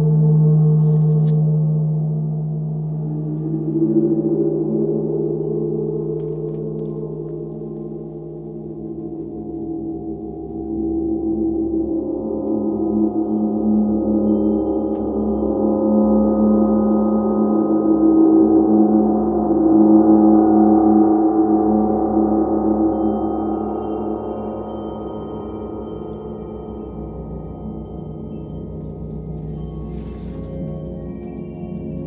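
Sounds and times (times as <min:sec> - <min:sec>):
gongs droning: 0:00.0 - 0:32.0.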